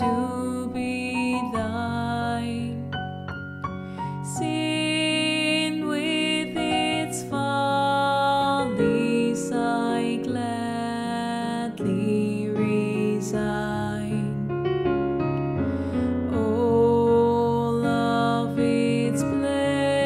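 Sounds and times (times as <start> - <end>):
woman singing a hymn: 0.0 - 2.9, 4.2 - 14.4, 16.2 - 20.0
piano accompaniment: 0.0 - 20.0.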